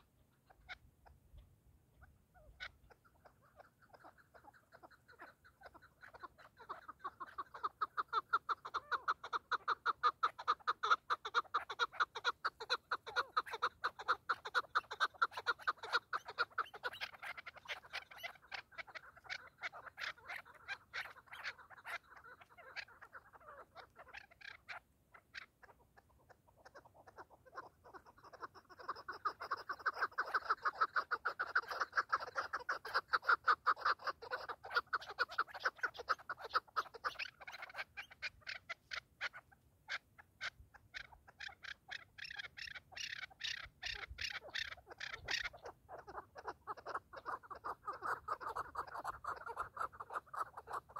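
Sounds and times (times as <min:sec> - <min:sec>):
partridges calling: 0:00.0 - 0:50.9.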